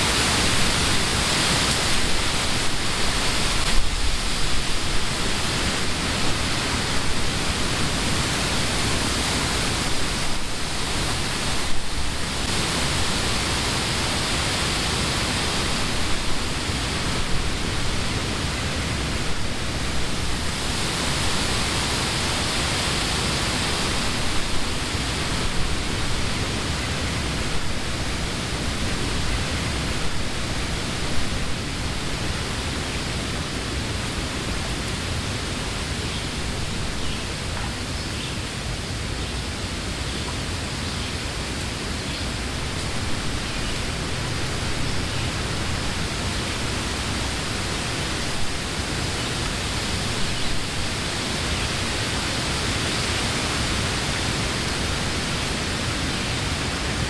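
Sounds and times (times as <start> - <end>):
wind in tree leaves: 0.0 - 57.0.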